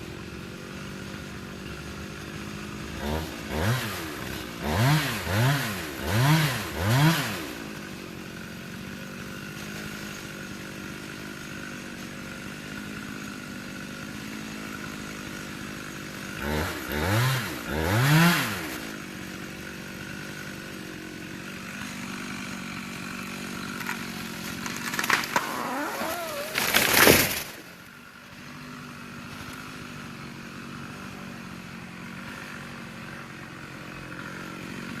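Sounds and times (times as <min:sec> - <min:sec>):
chainsaw idling and revving: 0:00.0 - 0:35.0.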